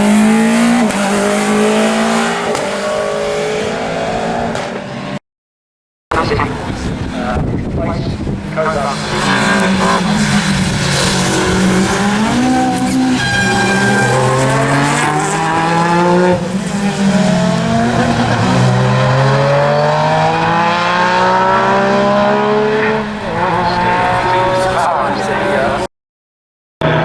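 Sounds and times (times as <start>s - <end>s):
car engine revving hard: 0.0s - 4.8s, 8.4s - 25.9s.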